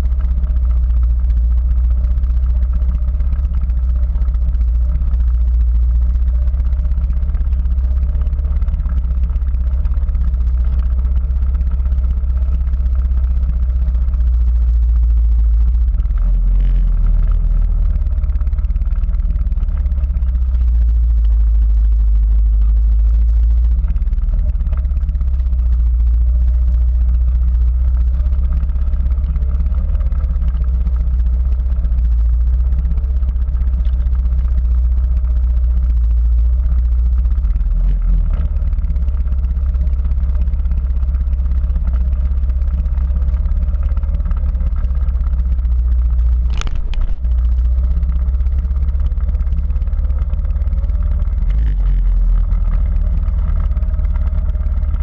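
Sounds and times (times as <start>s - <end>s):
quad bike engine rumbling: 0.0s - 55.0s.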